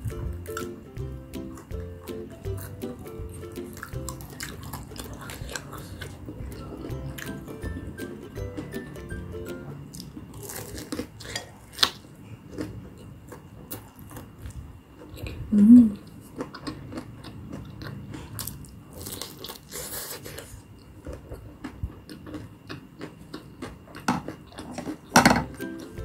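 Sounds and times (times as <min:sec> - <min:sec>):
person biting and chewing: 0:01.5 - 0:07.8, 0:09.9 - 0:25.6.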